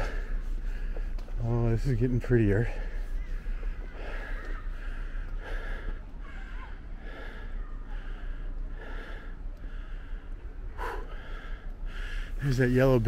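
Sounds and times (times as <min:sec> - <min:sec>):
man breathing hard: 0:00.0 - 0:01.4, 0:02.6 - 0:12.6.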